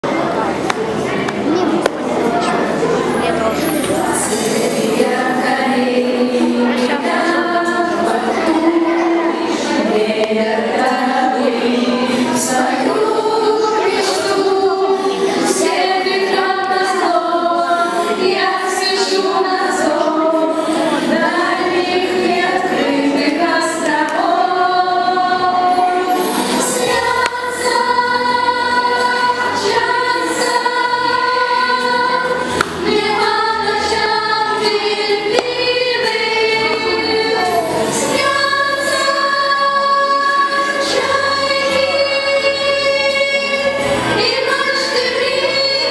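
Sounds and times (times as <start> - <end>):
children's choir singing: 0.0 - 45.9.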